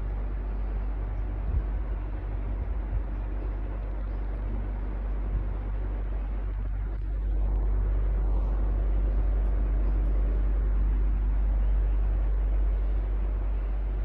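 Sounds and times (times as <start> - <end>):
electric fan running: 0.0 - 14.0.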